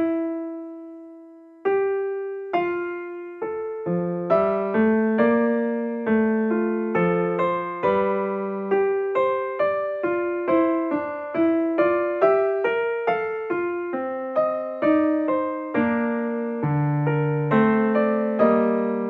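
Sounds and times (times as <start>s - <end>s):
slow electric piano melody: 0.0s - 19.0s.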